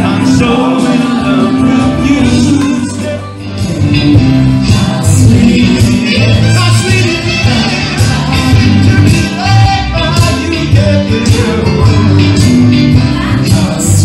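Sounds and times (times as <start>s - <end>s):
electric guitars: 0.0s - 14.0s
man singing: 0.0s - 14.0s.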